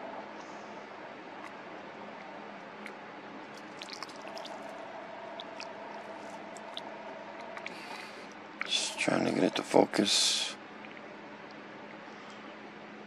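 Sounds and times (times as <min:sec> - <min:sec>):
faint background hum: 0:00.0 - 0:13.0.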